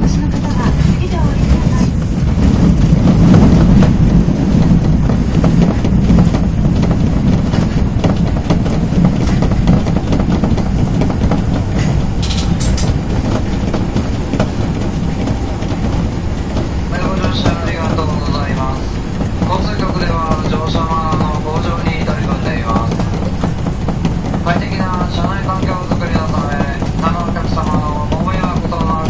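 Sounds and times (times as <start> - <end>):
train wheels rumbling on rail: 0.0 - 29.0
wheels clicking over track: 0.0 - 29.0.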